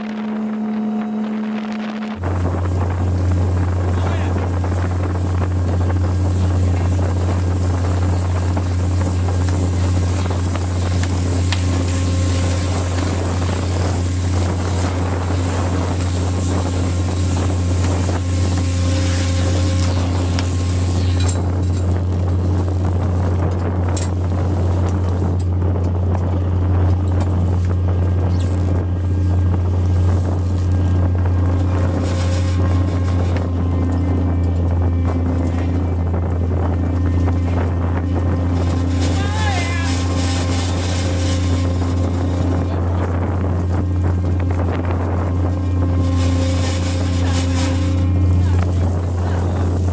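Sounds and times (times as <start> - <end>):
boat engine droning: 0.0 - 49.9
wind and water hiss: 0.0 - 49.9.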